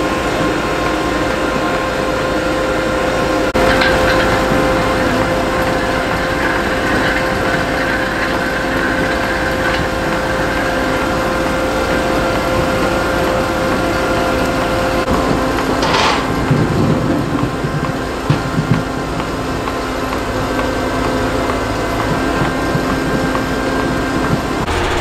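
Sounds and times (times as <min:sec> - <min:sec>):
loader engine under load: 0:00.0 - 0:25.0
steady machine whine: 0:00.0 - 0:25.0.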